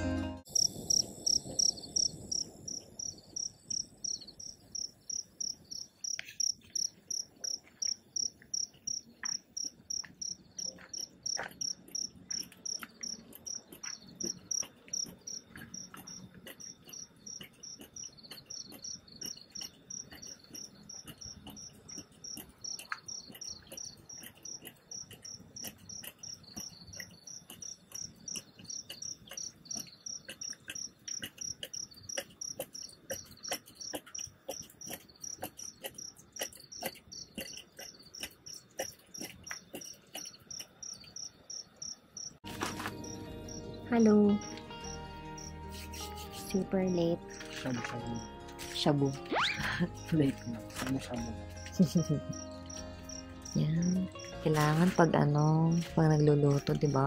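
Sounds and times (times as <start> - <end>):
cricket chirping: 0.5 - 55.9.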